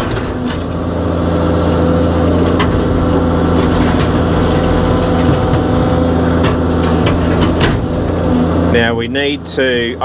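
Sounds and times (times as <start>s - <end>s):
diesel engine under load: 0.0s - 10.0s.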